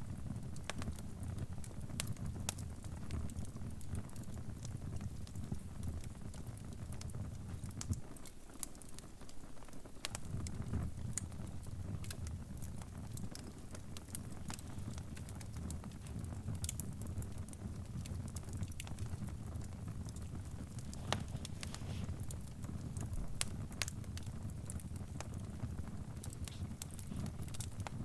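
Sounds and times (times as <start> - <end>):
fire crackling: 0.0 - 28.0
flames rumbling: 0.0 - 28.0.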